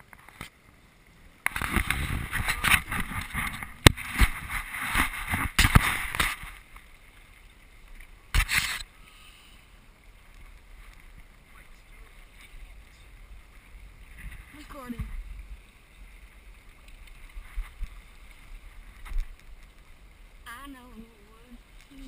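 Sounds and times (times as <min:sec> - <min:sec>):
water and wind rushing: 0:00.0 - 0:22.0.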